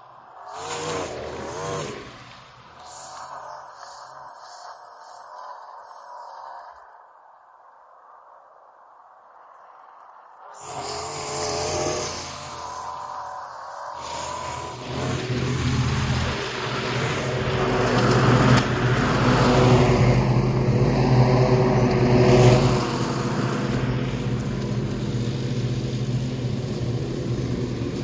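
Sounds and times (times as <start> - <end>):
ride-on lawn mower engine: 0.0 - 6.9, 10.5 - 28.0.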